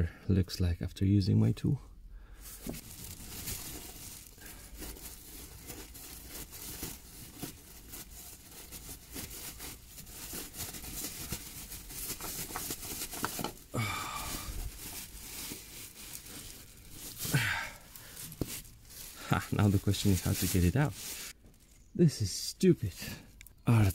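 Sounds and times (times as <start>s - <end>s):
plastic bag crinkling: 2.3s - 22.0s.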